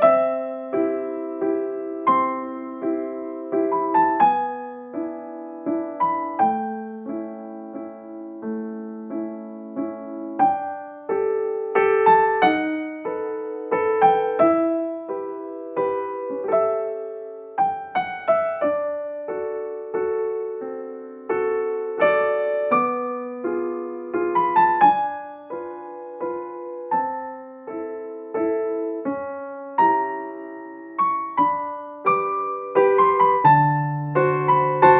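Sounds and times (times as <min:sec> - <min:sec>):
slow solo piano: 0:00.0 - 0:34.9.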